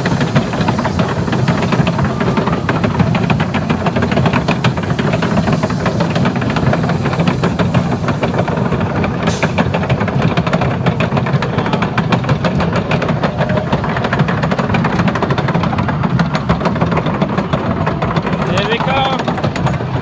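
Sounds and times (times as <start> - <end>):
roller coaster lift rumbling and clicking: 0.0 - 20.0.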